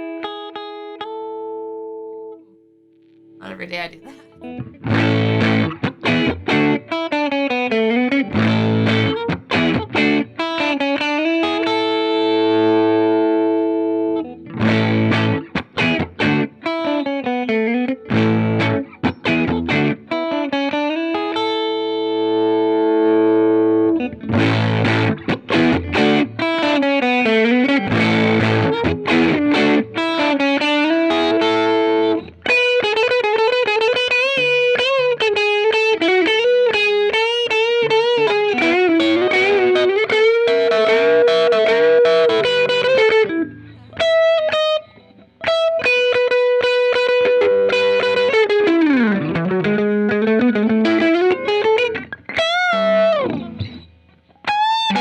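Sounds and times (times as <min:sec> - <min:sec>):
electric guitar lead with string bends: 0:00.0 - 0:02.4, 0:03.0 - 0:55.0
electric guitar chords: 0:00.0 - 0:55.0.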